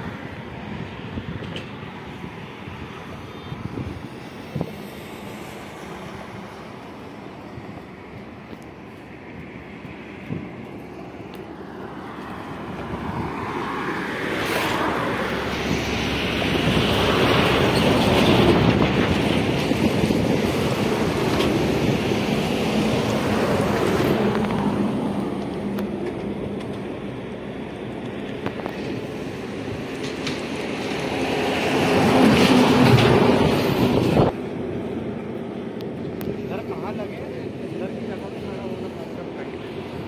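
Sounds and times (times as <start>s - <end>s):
traffic rumbling over bridge: 0.0s - 40.0s.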